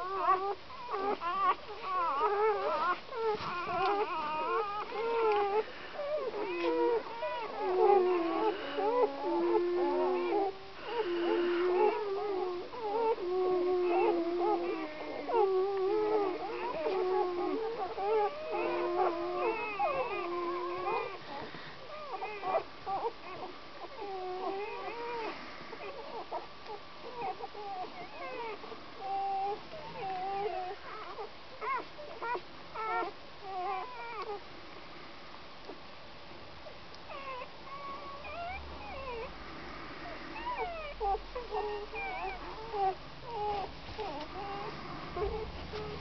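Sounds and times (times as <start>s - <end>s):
puppies whimpering and squeaking: 0.0s - 34.5s, 36.6s - 46.0s.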